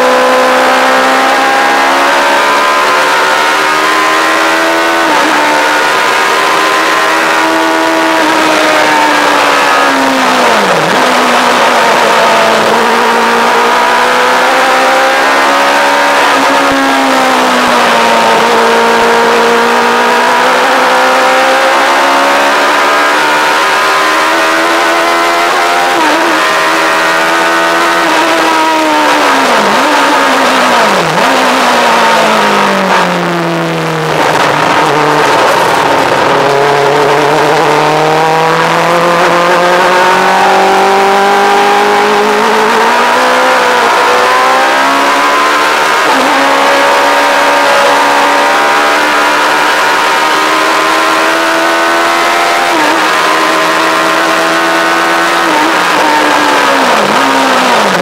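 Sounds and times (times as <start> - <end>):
motorcycle engine revving hard: 0.0 - 58.0.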